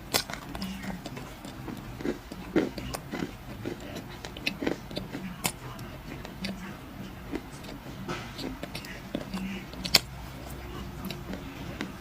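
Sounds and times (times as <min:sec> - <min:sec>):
clay crunching while chewed: 0:00.0 - 0:12.0.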